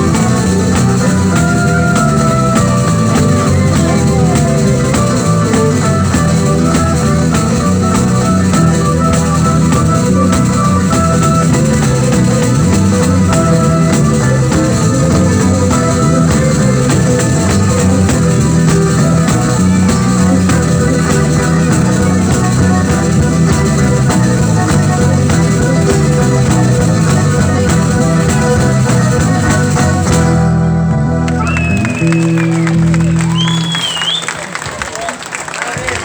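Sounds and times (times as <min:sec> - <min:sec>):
live band playing folk dance music: 0:00.0 - 0:36.0.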